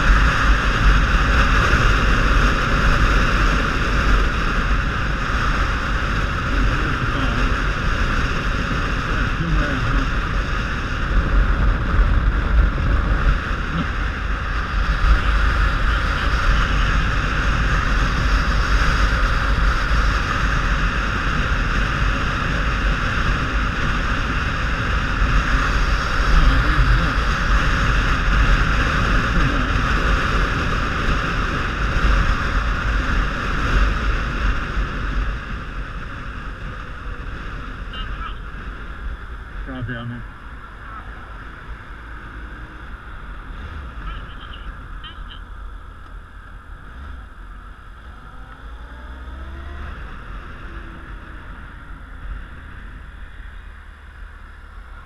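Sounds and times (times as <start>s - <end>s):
motorcycle engine: 0.0s - 55.0s
wind buffeting microphone: 0.0s - 55.0s.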